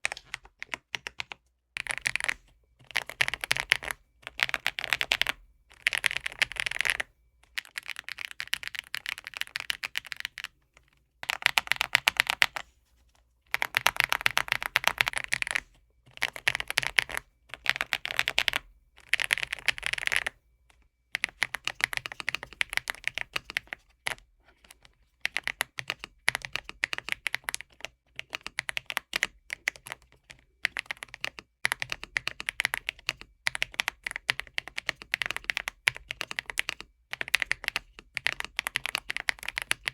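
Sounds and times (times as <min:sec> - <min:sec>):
mechanical keyboard typing: 0:00.0 - 0:10.6, 0:11.2 - 0:12.7, 0:13.5 - 0:20.4, 0:21.1 - 0:39.9.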